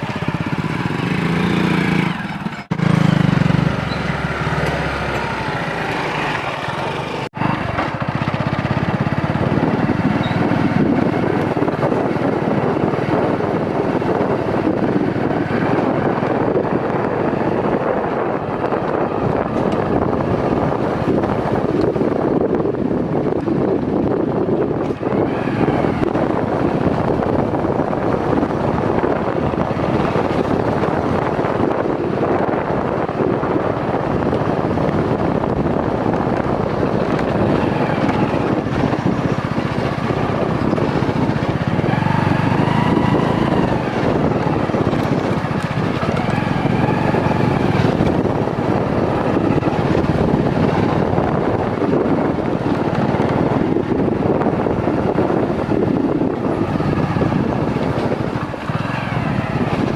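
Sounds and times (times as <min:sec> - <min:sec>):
vehicle engine: 0:00.0 - 0:59.9
wind noise on microphone: 0:00.0 - 0:59.9.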